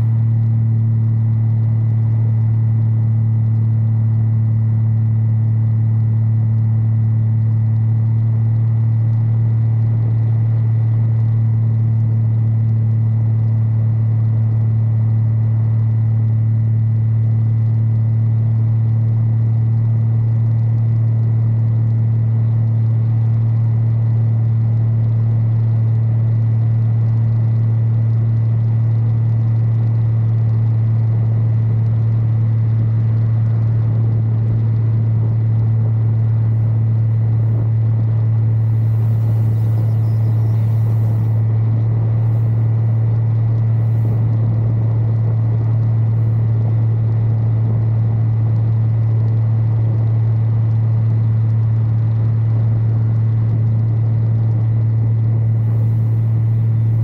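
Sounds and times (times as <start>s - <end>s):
light aircraft engine droning: 0.0s - 16.7s, 20.0s - 57.0s.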